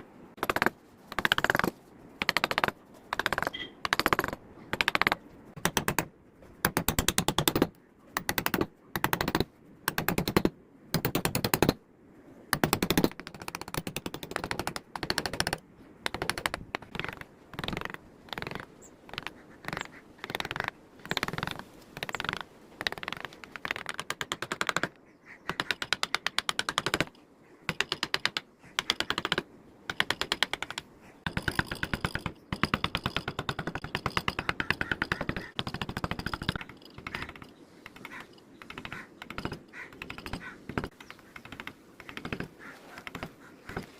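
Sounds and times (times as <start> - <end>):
carving tool clicking on wood: 0.4 - 11.8, 12.5 - 43.9.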